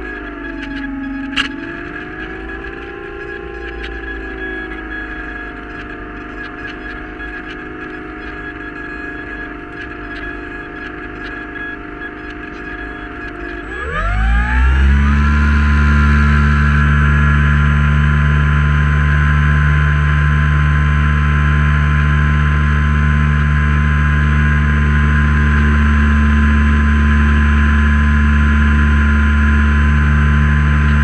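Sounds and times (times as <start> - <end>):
propeller aircraft engine revving: 0.0 - 31.0.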